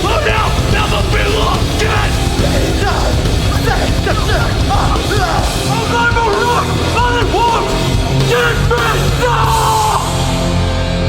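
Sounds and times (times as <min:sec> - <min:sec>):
distorted guitars: 0:00.0 - 0:11.0
drums: 0:00.0 - 0:11.0
yelled vocals: 0:00.0 - 0:11.0.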